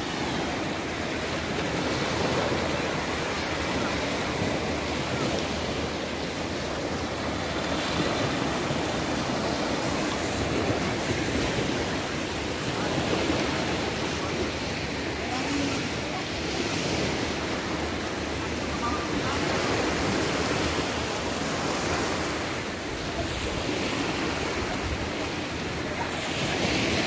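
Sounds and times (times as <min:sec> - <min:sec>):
surf breaking on beach: 0:00.0 - 0:27.0.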